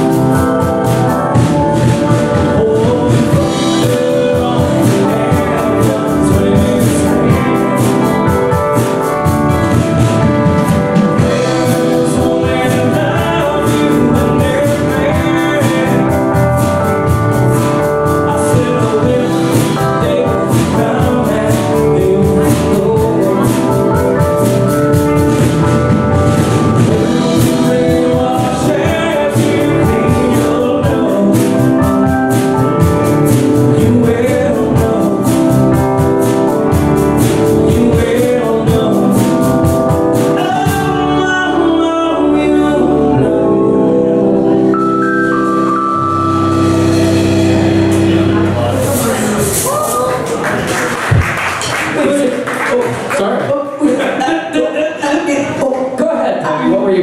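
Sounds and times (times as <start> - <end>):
sung vocals: 0.0 - 50.4
electric guitars: 0.0 - 53.2
bass guitar: 0.0 - 57.0
drum kit: 0.0 - 57.0
keyboard: 0.0 - 57.0.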